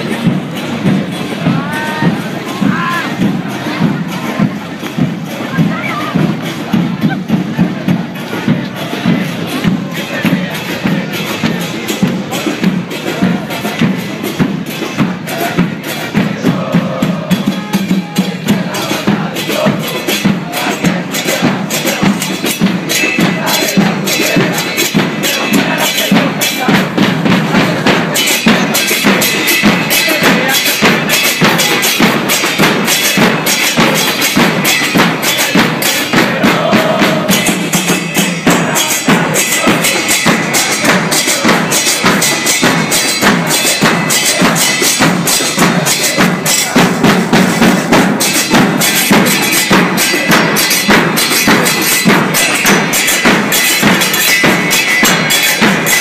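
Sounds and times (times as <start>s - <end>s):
crowd of fans singing: 0.0s - 56.0s
cymbals: 0.0s - 56.0s
drum band playing rapid beat: 0.0s - 56.0s.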